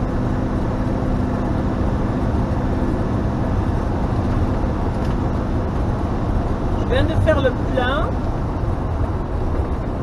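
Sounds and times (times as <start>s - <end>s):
tyre and road noise: 0.0s - 10.0s
vehicle engine drone: 0.0s - 10.0s.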